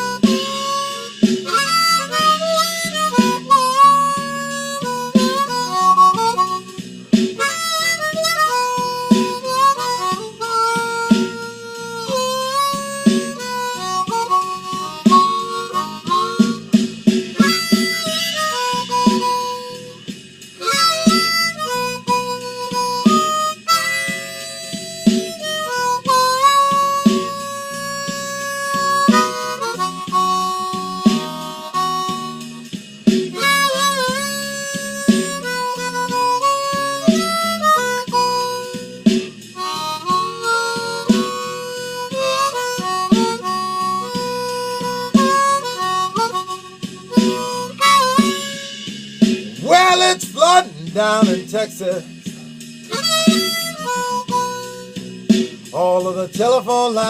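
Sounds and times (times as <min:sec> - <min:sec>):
drum and bass backing track: 0:00.0 - 0:57.0
harmonica playing blues: 0:00.0 - 0:57.0.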